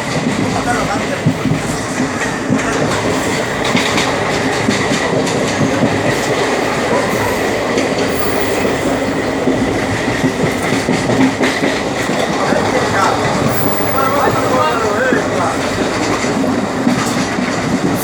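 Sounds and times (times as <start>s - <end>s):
train rumbling on track: 0.0s - 18.0s
wheels clattering over rail joints: 0.0s - 18.0s.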